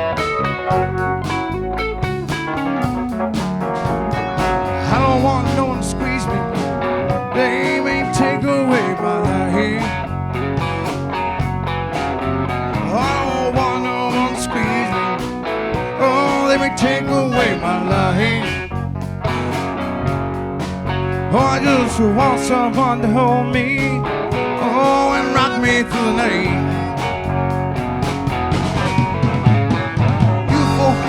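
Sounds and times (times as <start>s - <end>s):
band playing blues-country song: 0.0s - 31.0s
steady drum beat: 0.0s - 31.0s.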